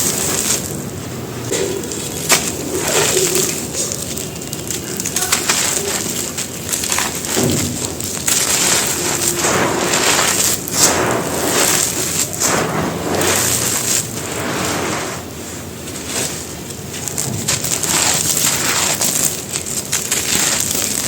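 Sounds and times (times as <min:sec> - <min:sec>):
gravel and cement crunching: 0:00.0 - 0:21.0.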